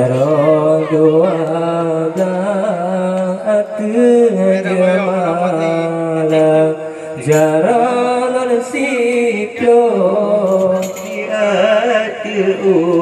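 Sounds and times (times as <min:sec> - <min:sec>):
man chanting ornamented vocal line: 0:00.0 - 0:13.0.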